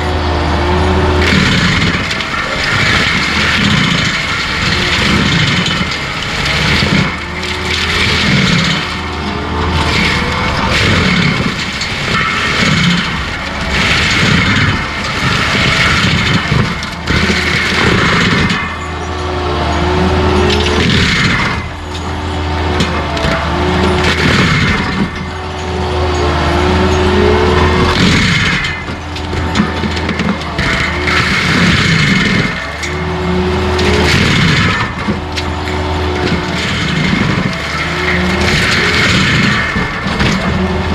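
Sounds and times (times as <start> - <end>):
engine drone: 0.0 - 40.9
stump grinder grinding and chipping: 0.0 - 40.9.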